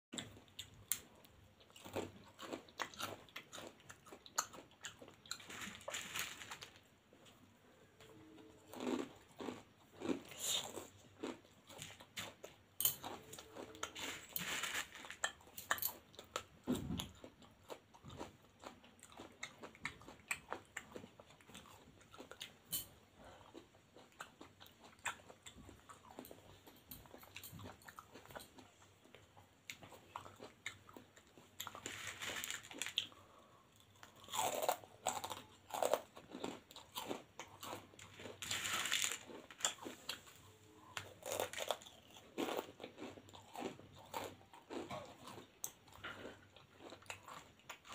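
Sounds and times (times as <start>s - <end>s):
crunchy snack chewing: 0.2s - 6.8s, 8.7s - 22.5s, 23.2s - 47.9s.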